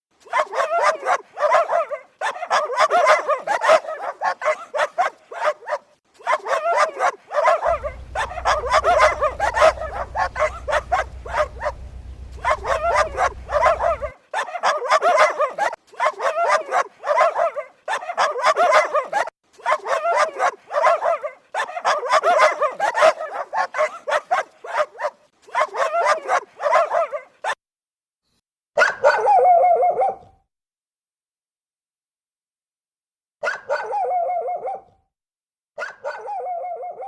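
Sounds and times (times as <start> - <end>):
dog barking: 0.2 - 27.6, 28.8 - 30.4, 33.4 - 35.0, 35.8 - 37.0.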